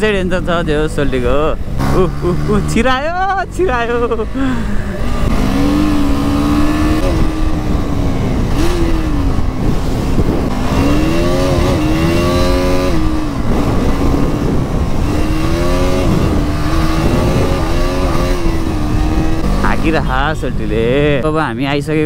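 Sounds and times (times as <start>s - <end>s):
motorcycle engine revving: 0.0s - 22.0s
wind and road noise: 0.0s - 22.0s.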